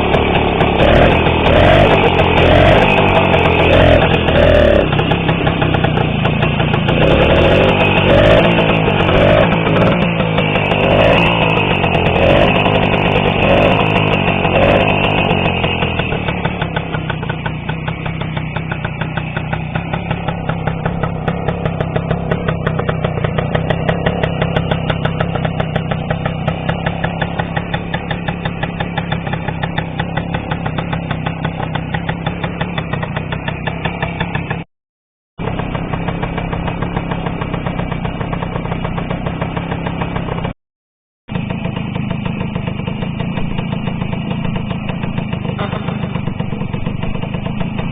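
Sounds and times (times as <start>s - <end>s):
two-stroke motorcycle engine: 0.0s - 34.7s, 35.4s - 40.6s, 41.3s - 47.9s.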